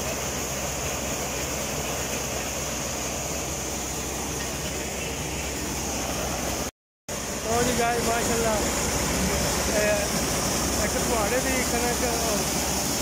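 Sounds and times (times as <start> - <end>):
maize sheller running: 0.0 - 13.0
tractor diesel engine hum: 0.0 - 13.0.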